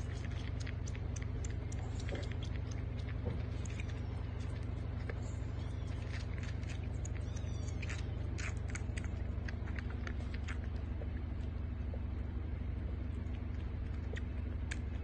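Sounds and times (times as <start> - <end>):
kitten suckling from a bottle: 0.0 - 12.2
steady low hum: 0.0 - 15.0.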